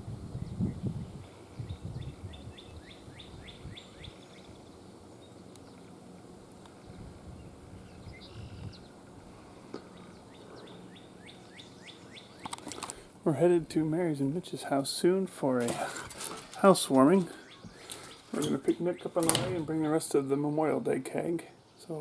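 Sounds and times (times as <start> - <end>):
swallows chirping: 0.5 - 6.0, 6.6 - 15.2, 16.5 - 22.0.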